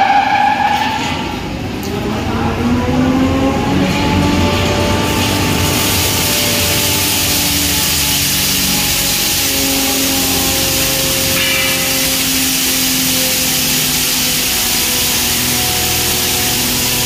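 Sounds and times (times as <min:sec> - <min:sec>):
hammer mill grinding maize: 0:03.0 - 0:17.0.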